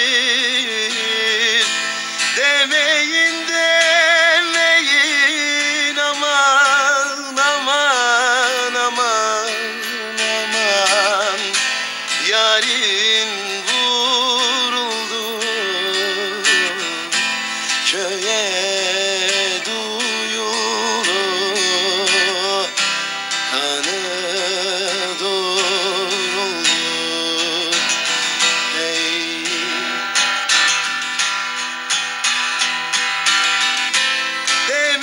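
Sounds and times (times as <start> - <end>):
middle eastern folk music: 0.0 - 35.0
plucked string instrument: 0.0 - 35.0.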